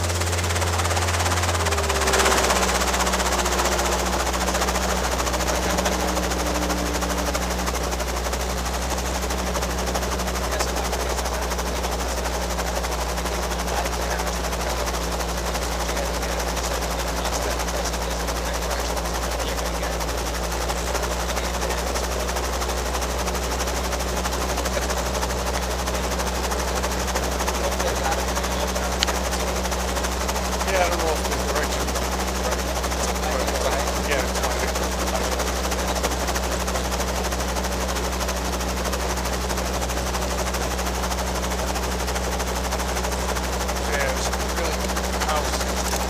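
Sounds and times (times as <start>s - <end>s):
engine low drone: 0.0s - 46.0s
helicopter rotor chopping: 0.0s - 46.0s.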